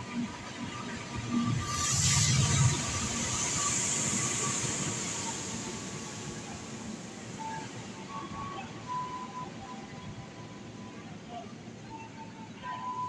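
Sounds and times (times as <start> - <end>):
passenger train rolling: 0.0 - 13.0.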